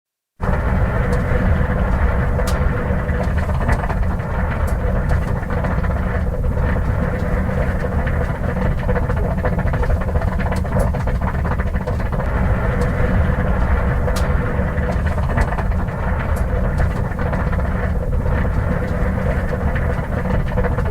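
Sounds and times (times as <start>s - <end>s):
car engine idling: 0.4s - 20.9s.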